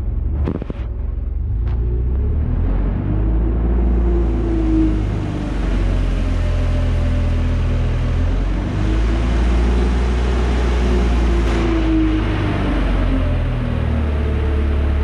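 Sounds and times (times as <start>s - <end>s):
forklift engine running: 0.0s - 15.0s.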